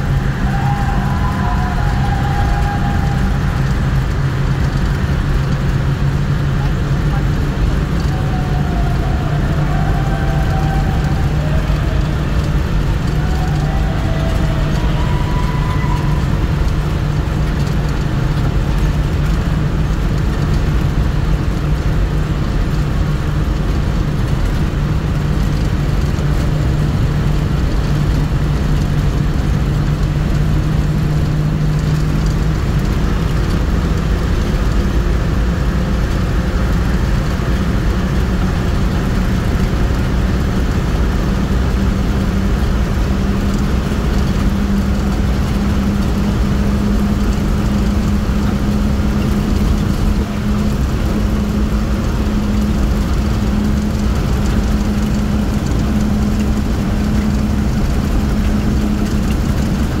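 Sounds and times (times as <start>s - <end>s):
low drone: 0.0s - 60.0s
vehicle engine hum and road noise: 0.0s - 60.0s.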